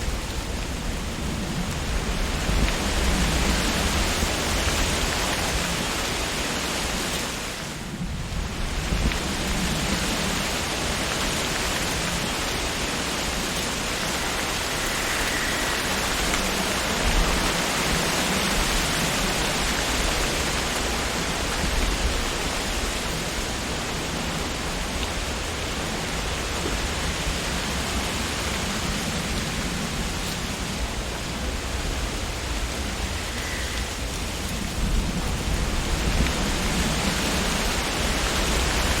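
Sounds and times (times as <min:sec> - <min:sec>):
wind rustling tree leaves: 0:00.0 - 0:39.0.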